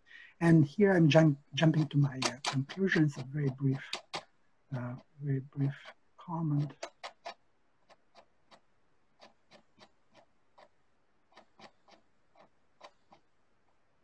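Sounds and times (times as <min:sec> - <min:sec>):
faint irregular clicks: 0:01.0 - 0:14.0.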